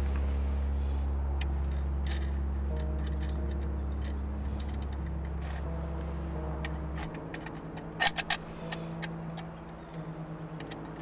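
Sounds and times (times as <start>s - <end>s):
steady low drone: 0.0s - 11.0s
small metallic clicks: 1.4s - 11.0s.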